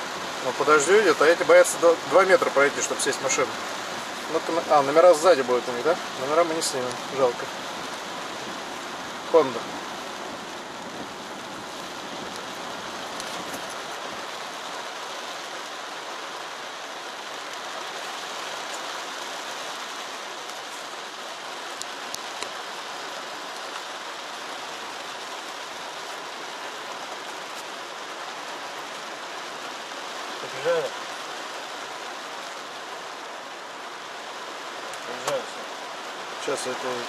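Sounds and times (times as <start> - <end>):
heavy rain on car roof: 0.0 - 37.0.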